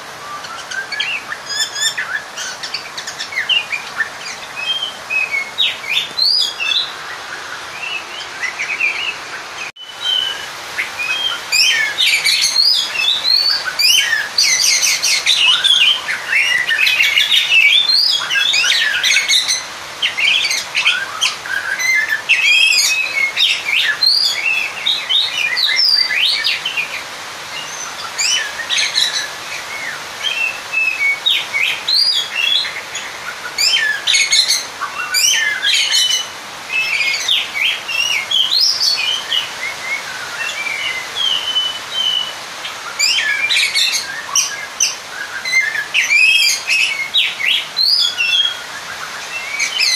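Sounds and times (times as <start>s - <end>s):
songbird singing fast chirps: 0.0s - 49.9s.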